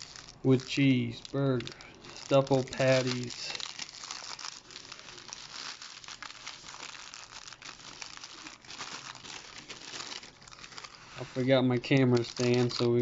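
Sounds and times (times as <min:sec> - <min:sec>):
paper wrapper crinkling: 0:00.0 - 0:13.0.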